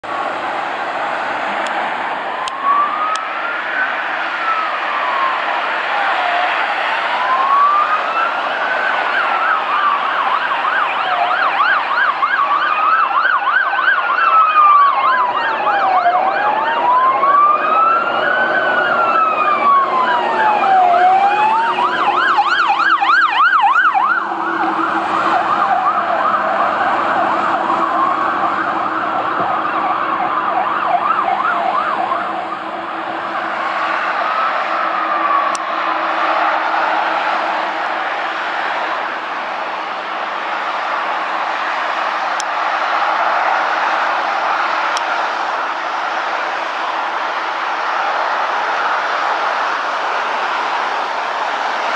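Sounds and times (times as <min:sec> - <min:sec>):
emergency siren wailing: 0:00.0 - 0:51.9
rapid yelp siren: 0:00.0 - 0:51.9.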